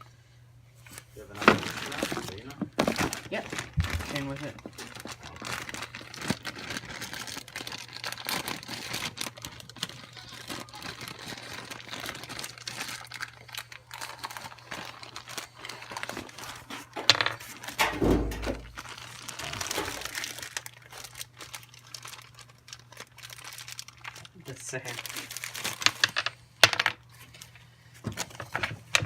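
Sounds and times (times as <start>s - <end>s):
plastic packaging crinkling: 0.8s - 29.0s.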